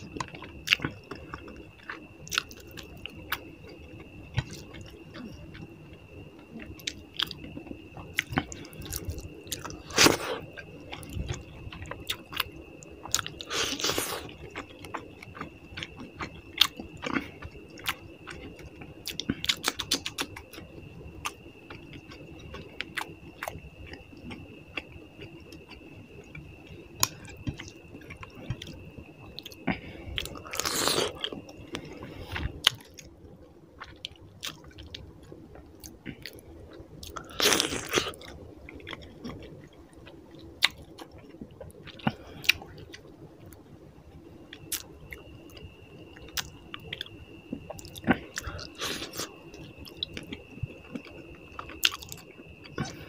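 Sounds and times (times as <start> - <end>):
person chewing with crunching: 0.0 - 33.1, 33.8 - 43.5, 44.5 - 53.0
faint high whine: 0.0 - 53.0.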